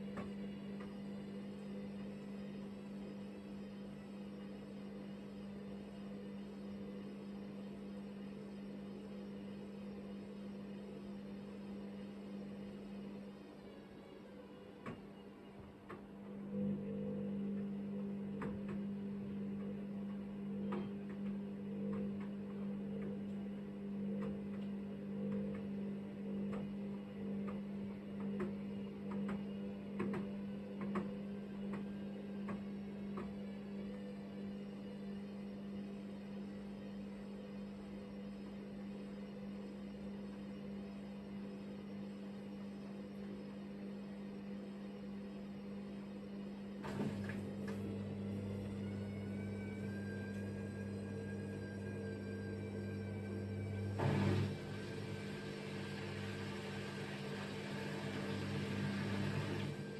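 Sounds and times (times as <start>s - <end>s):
drain pump humming: 0.0s - 59.9s
drum motor low hum: 0.0s - 59.9s.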